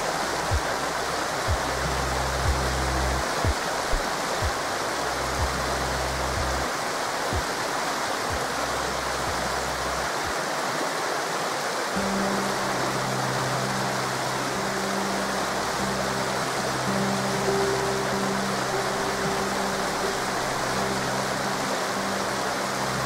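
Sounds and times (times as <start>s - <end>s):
river water rushing: 0.0s - 23.0s
soft low background music: 0.0s - 23.0s.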